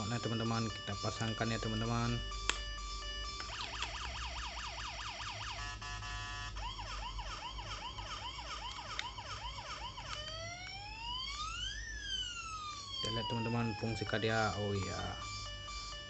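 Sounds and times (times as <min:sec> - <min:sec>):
toy electronic siren: 0:00.0 - 0:16.0.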